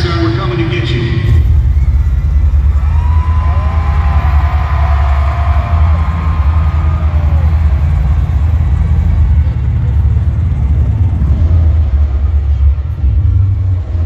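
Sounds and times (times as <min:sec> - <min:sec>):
deep bass rumbling: 0:00.0 - 0:14.0.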